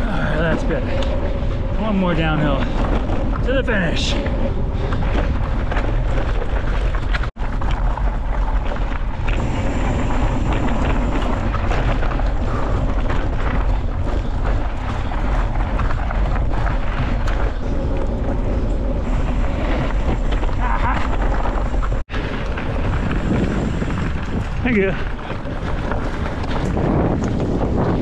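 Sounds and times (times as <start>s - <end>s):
bike tyres rumbling and rattling: 0.0s - 28.0s
wind buffeting microphone: 0.0s - 28.0s.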